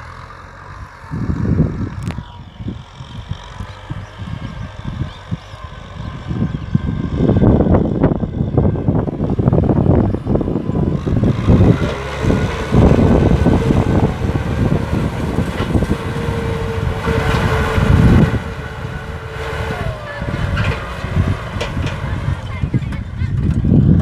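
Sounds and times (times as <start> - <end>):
tractor diesel engine rumbling: 0.0 - 24.0.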